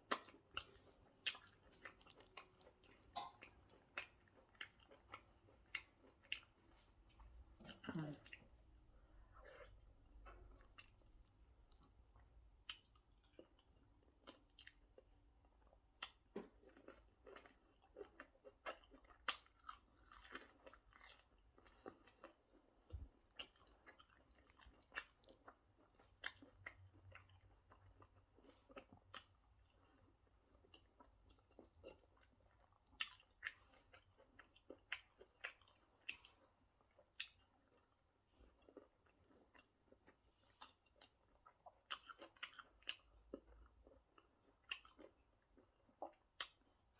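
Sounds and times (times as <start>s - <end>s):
faint chewing with mouth clicks: 0.0s - 46.9s.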